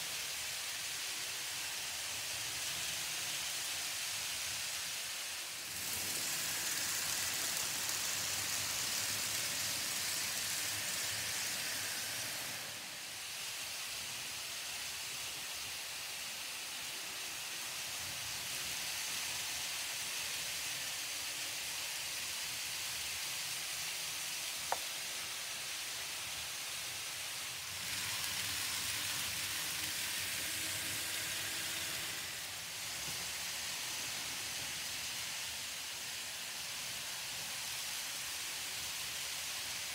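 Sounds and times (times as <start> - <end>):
model trains whirring: 0.0 - 39.9.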